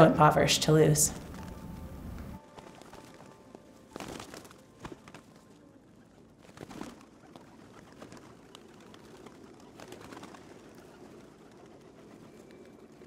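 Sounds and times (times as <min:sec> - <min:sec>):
pigeons cooing: 0:02.3 - 0:13.0.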